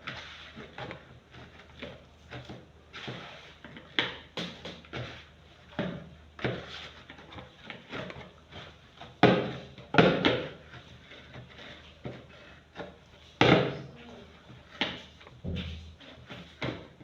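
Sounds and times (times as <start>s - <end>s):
dough being kneaded: 0.0s - 17.0s.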